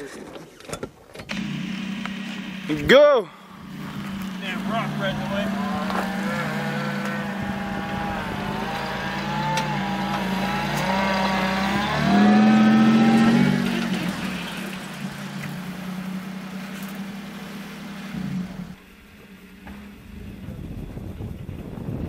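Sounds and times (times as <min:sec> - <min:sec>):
truck engine revving: 0:01.3 - 0:22.0.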